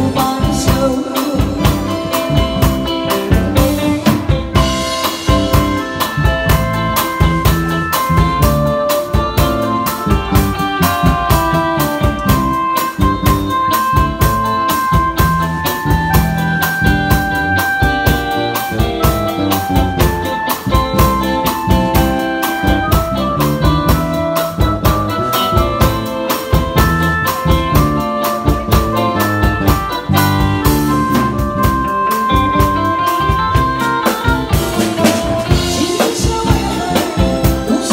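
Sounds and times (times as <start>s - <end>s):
drum kit beat: 0.0s - 37.9s
electronic keyboard chords and melody: 0.0s - 37.9s.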